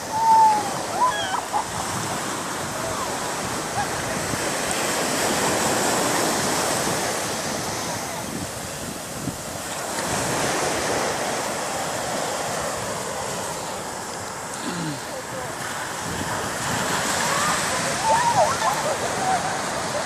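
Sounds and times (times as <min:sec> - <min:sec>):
ocean surf on sandy beach: 0:00.0 - 0:20.0.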